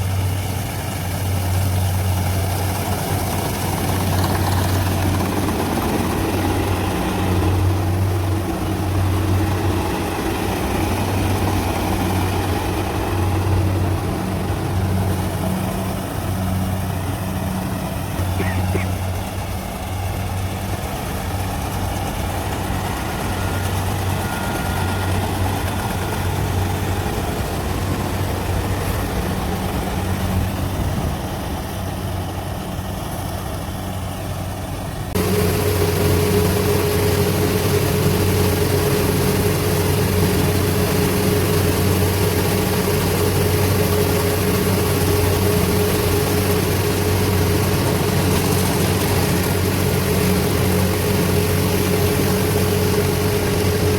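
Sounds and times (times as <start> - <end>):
diesel engine humming: 0.0 - 53.9.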